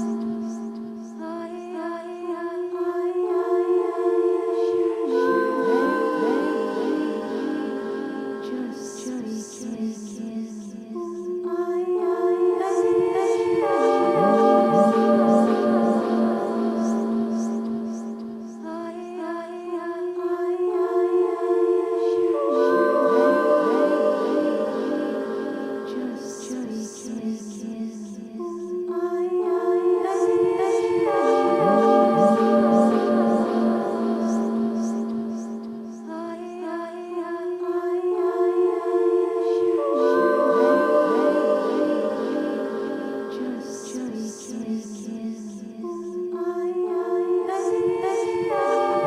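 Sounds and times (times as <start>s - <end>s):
a cappella wordless voices: 0.0s - 49.0s
women humming and singing drone: 0.0s - 49.0s.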